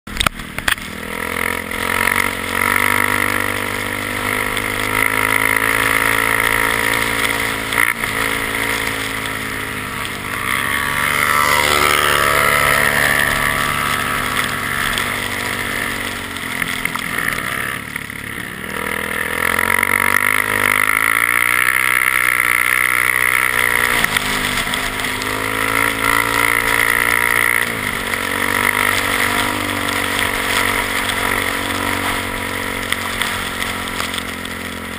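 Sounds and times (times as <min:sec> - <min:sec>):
atv engine revving: 0:00.1 - 0:34.9.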